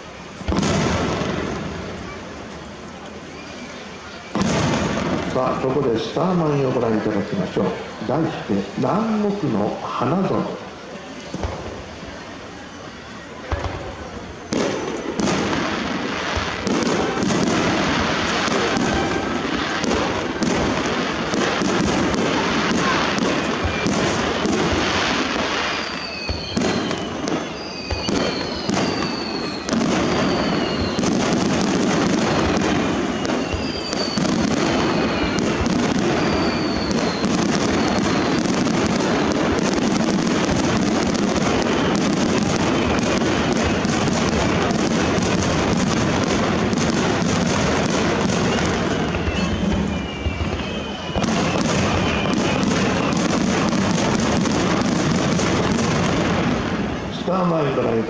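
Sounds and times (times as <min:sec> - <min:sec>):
fireworks falling whistles: 0:00.0 - 0:58.0.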